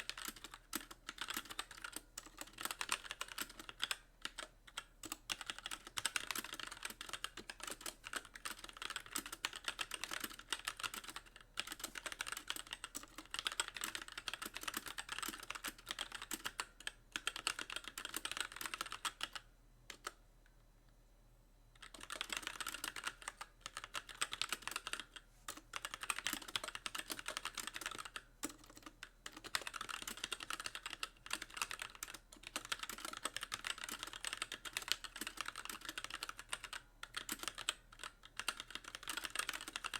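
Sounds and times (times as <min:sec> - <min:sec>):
mechanical keyboard typing: 0:00.0 - 0:20.2, 0:21.8 - 0:39.9.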